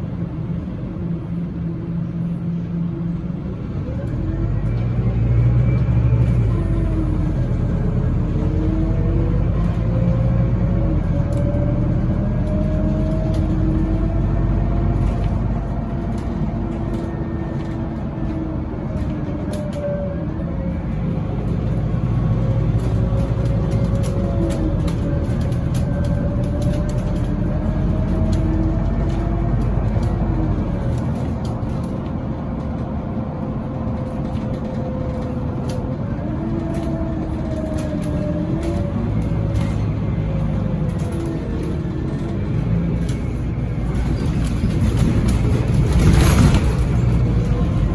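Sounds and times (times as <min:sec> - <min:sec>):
bus drivetrain rumble: 0:00.0 - 0:47.9
bus whine: 0:00.0 - 0:47.9
rattles and clicks: 0:04.1 - 0:47.9.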